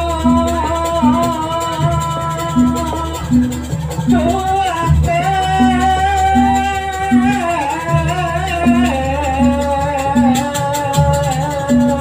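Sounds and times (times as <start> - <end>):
gamelan music: 0.0 - 12.0.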